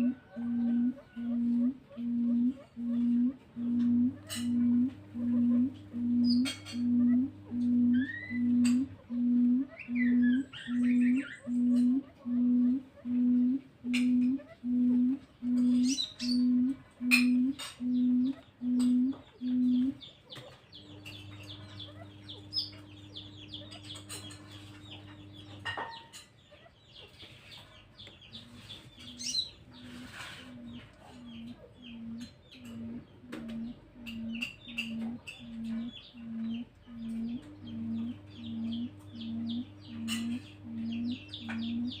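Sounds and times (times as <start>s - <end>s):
quail calling low notes and hoots: 0.0s - 26.2s, 28.3s - 42.0s
small birds chirping: 0.0s - 42.0s.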